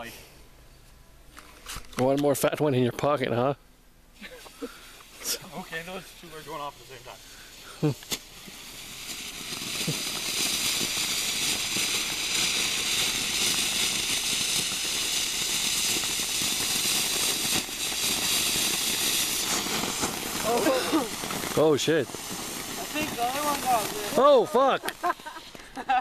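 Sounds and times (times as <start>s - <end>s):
firework fountain hissing: 0.0s - 0.5s, 4.1s - 26.0s
small crackles: 4.4s - 26.0s.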